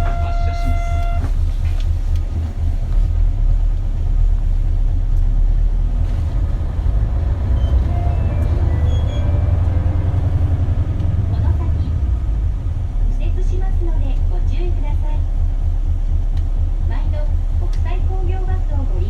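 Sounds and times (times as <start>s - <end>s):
bus diesel engine rumble: 0.0s - 19.0s.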